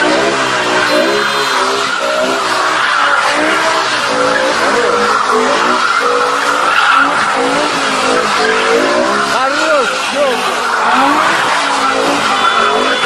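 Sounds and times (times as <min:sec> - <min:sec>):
car engine revving high: 0:00.0 - 0:13.0
tyres screeching: 0:00.0 - 0:13.0.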